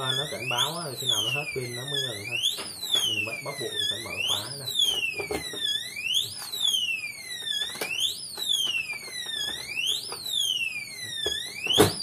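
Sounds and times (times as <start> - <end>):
safe alarm siren wailing: 0.0 - 12.0.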